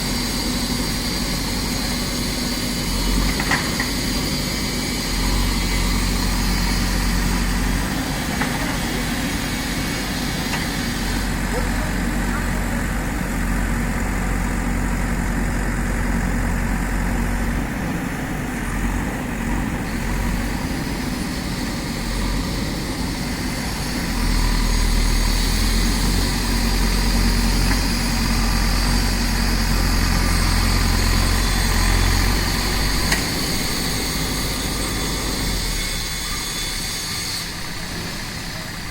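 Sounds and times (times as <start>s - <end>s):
diesel engine rumble: 0.0s - 38.9s
thin high whine: 0.0s - 38.9s.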